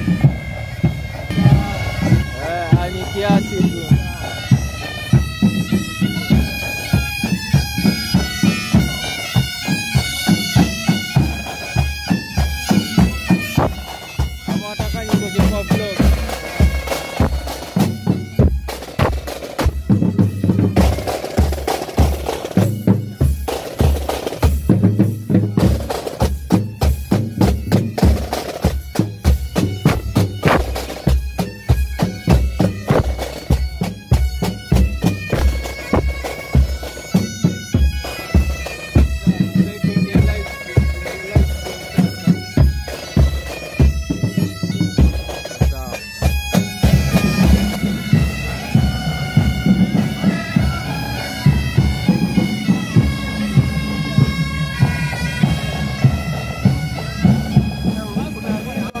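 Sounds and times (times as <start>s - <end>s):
bagpipes playing: 0.0s - 59.0s
marching drums: 0.0s - 59.0s.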